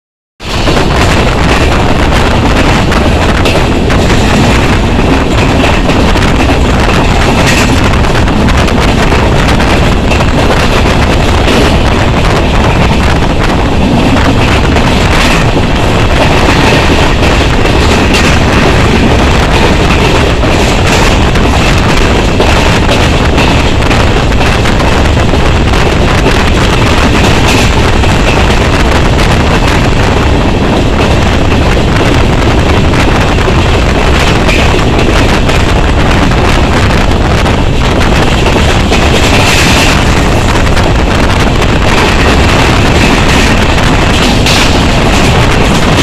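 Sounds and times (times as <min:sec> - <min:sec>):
train coach rumbling on rails: 0:00.0 - 0:46.0
wind buffeting microphone: 0:00.4 - 0:46.0.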